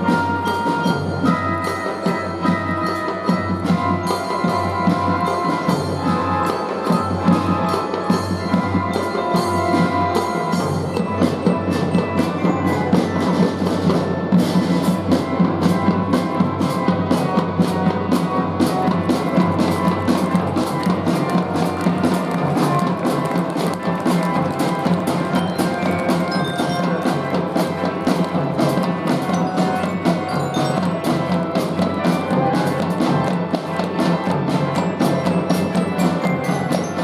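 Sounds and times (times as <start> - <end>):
fife and drum band: 0.0 - 37.0
steady drum beat: 0.0 - 37.0.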